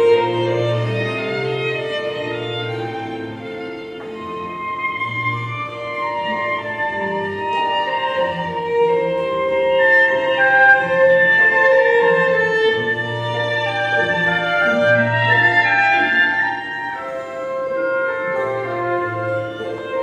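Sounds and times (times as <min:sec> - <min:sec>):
held low string notes: 0:00.0 - 0:20.0
violin line: 0:00.0 - 0:20.0.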